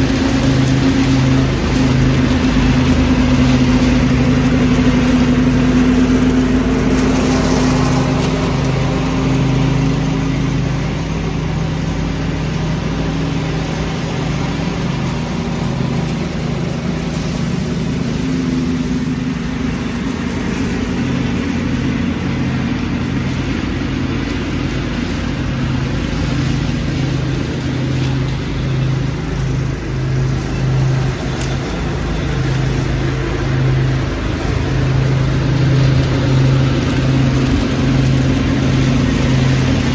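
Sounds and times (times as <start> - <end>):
leaf vacuum engine running: 0.0 - 39.9.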